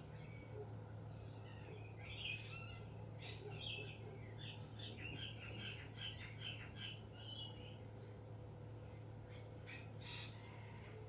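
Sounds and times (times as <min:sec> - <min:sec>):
wild birds chirping: 0:00.0 - 0:11.0.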